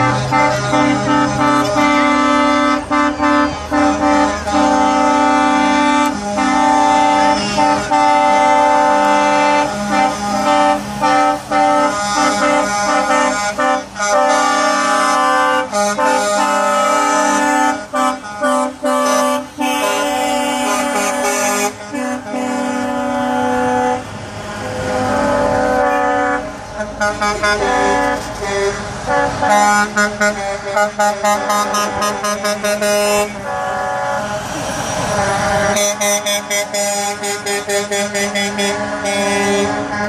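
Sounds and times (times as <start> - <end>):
truck air horns blasting: 0.0 - 40.0.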